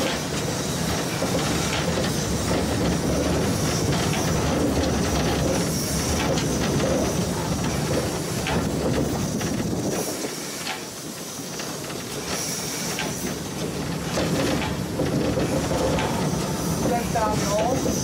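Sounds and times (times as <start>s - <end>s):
locomotive low rumble: 0.0s - 18.0s
steam hiss: 0.0s - 18.0s
wheels clicking on rails: 0.0s - 18.0s.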